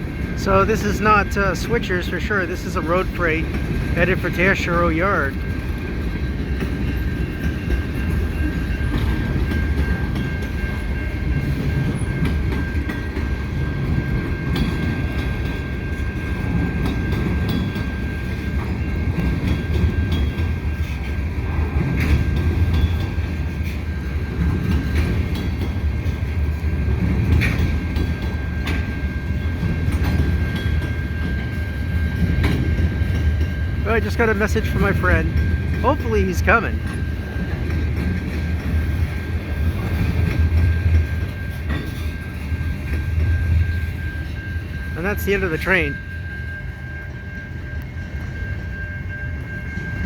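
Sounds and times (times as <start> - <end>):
freight train rumbling past: 0.0 - 50.0.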